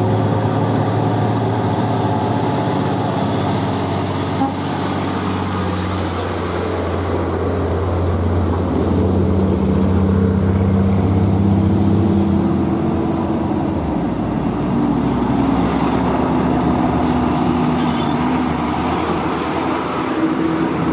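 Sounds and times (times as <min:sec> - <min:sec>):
heavy diesel truck engine: 0:00.0 - 0:20.9
tyre and road noise: 0:00.0 - 0:20.9.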